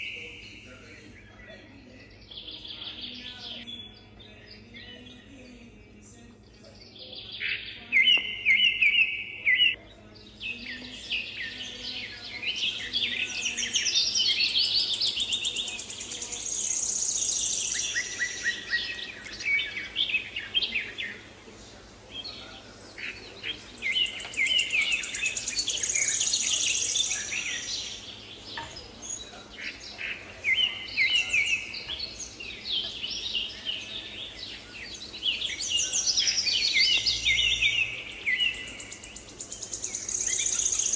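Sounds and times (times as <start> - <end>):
small birds chirping and singing: 0.0 - 40.9.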